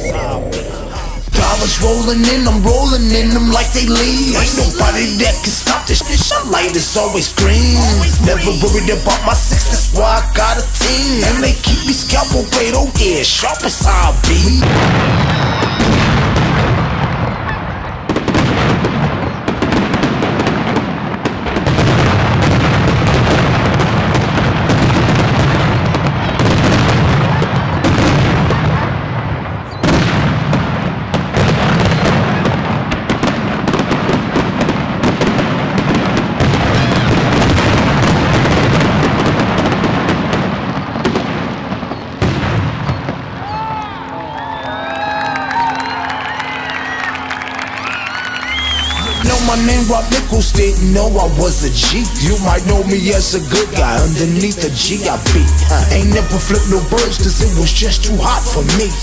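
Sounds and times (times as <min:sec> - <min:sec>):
fireworks booming and crackling: 0:00.0 - 0:44.1, 0:47.0 - 0:59.0.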